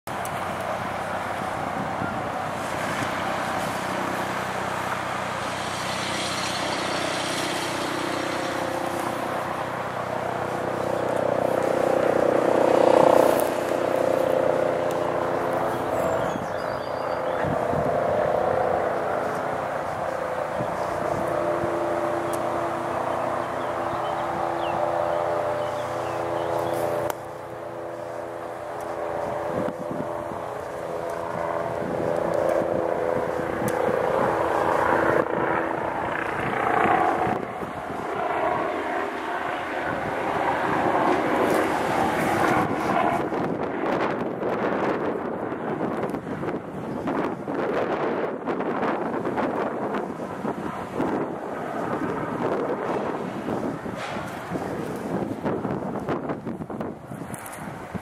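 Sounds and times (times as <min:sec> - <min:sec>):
helicopter drone: 0:00.1 - 0:58.0.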